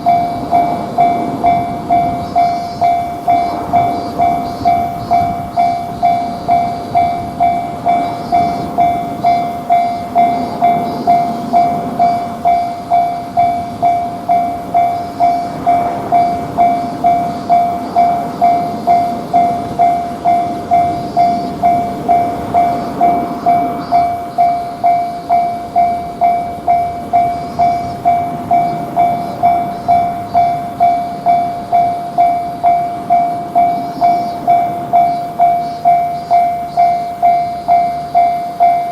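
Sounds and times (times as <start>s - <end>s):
level crossing warning bell: 0.0s - 38.9s
train rumbling past: 0.0s - 38.9s.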